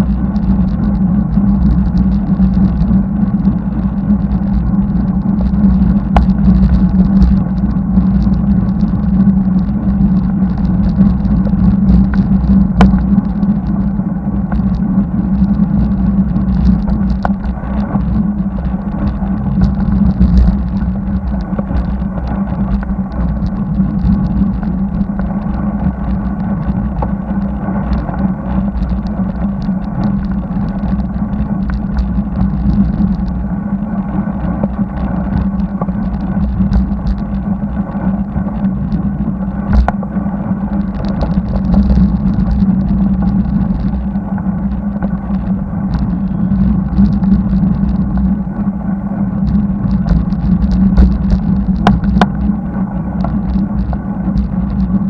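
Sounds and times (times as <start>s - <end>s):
low hum: 0.0s - 55.0s
wind noise on microphone: 0.0s - 55.0s.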